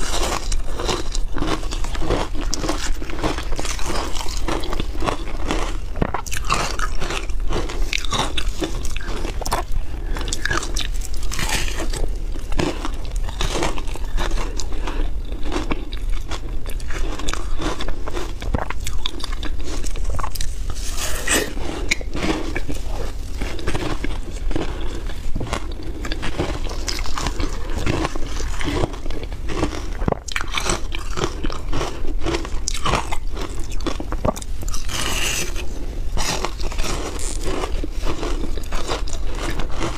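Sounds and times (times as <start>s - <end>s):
chewing ice crunching: 0.0s - 39.9s.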